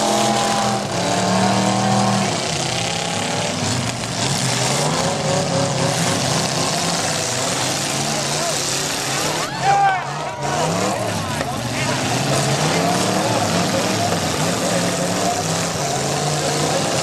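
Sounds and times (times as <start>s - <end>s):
arena noise: 0.0s - 17.0s
car engines revving: 0.0s - 17.0s.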